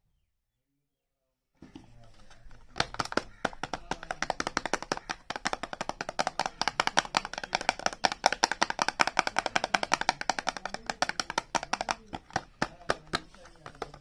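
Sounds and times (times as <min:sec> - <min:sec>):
fingernails tapping on packaging: 0:01.7 - 0:14.0.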